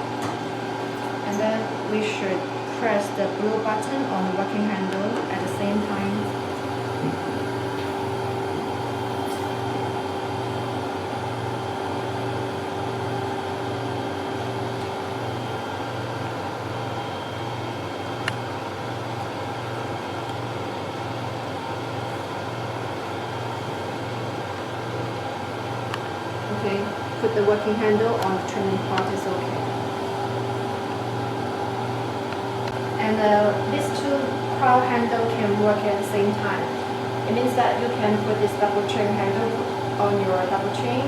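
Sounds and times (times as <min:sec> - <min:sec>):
machine mechanical hum with pulse: 0:00.0 - 0:41.0.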